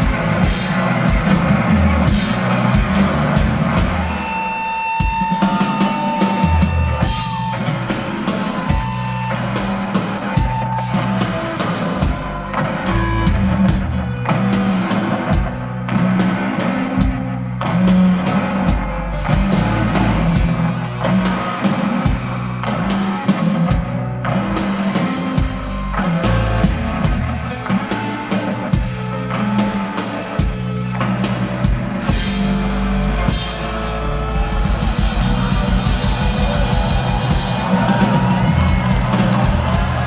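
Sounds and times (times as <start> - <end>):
bass guitar: 0.0 - 40.0
drum kit beat: 0.0 - 40.0
electric guitars: 0.0 - 40.0.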